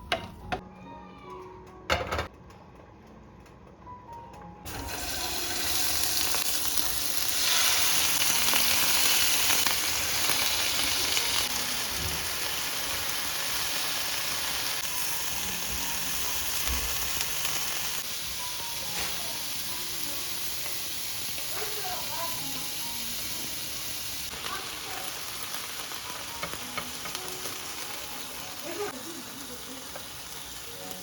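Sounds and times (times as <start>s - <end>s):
food sizzling in a pan: 4.7s - 31.0s.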